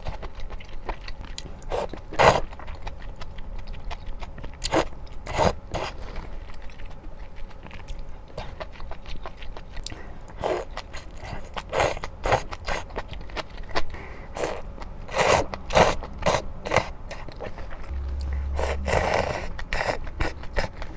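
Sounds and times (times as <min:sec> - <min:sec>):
wet chewing and smacks: 0:00.0 - 0:20.9.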